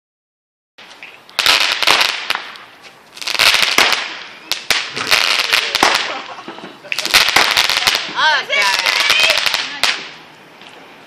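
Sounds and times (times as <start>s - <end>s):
fireworks crackling pops: 0.8s - 11.0s.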